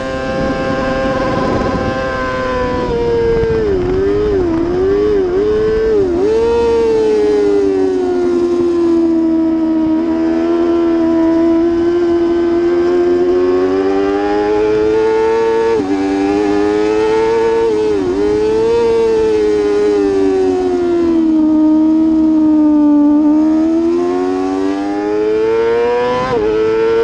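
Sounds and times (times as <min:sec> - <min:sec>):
motorcycle engine at high revs: 0:00.0 - 0:27.0.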